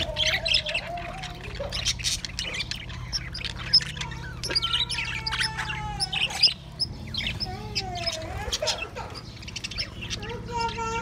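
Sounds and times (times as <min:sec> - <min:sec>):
budgerigars chirping and squawking: 0:00.0 - 0:11.0
steady low hum: 0:00.0 - 0:11.0.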